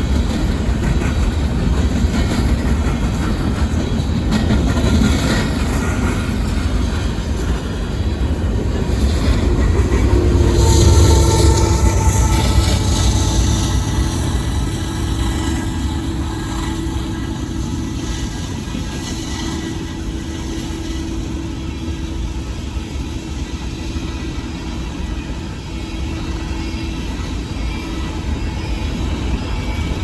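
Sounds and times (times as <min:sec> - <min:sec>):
train cars rumbling past: 0:00.0 - 0:30.0.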